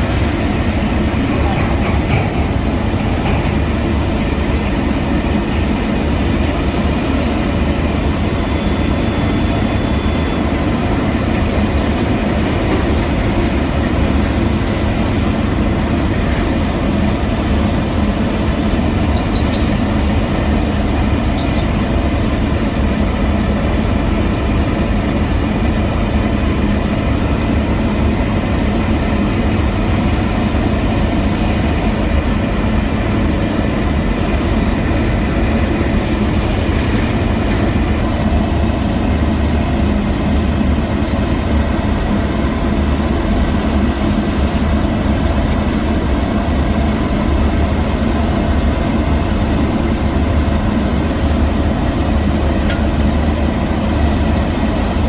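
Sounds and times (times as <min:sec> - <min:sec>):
diesel construction machinery running: 0:00.0 - 0:55.0.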